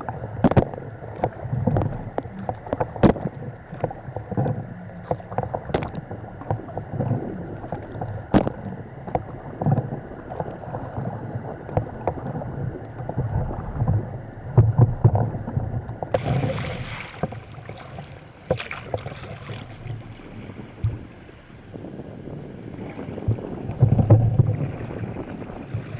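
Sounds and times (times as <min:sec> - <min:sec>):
paddle strokes: 0:00.0 - 0:22.0, 0:22.7 - 0:25.9
water splashing against hull: 0:00.0 - 0:25.9.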